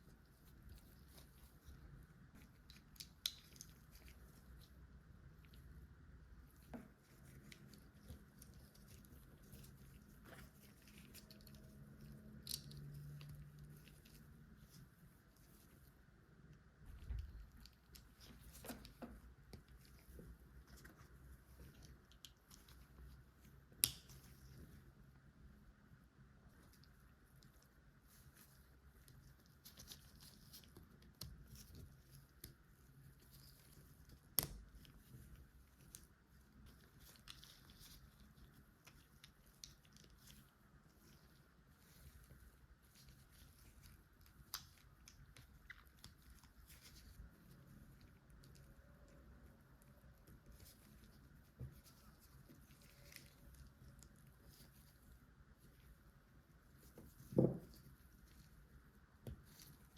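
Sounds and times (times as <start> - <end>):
faint low hum: 0.0 - 59.9.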